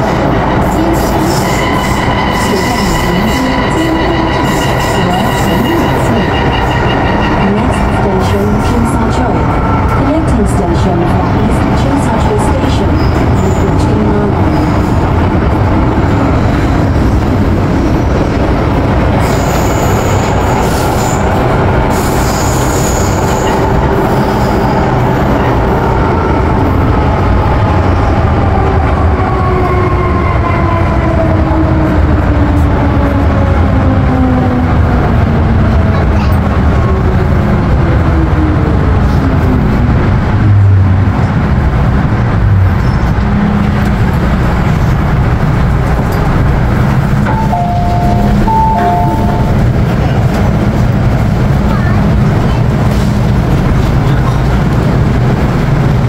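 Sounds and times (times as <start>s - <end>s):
train rumble and wheel noise: 0.0s - 56.0s.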